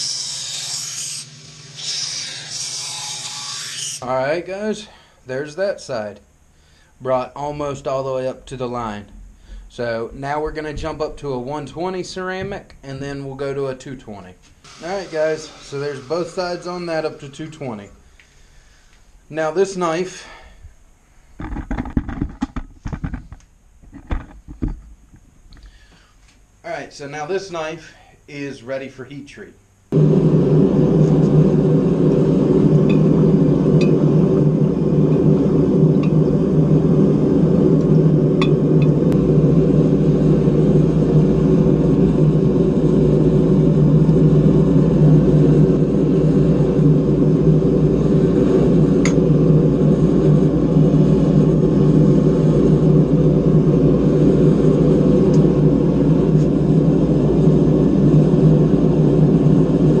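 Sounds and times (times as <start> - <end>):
forge burner roaring: 0.0 - 20.6, 29.9 - 60.0.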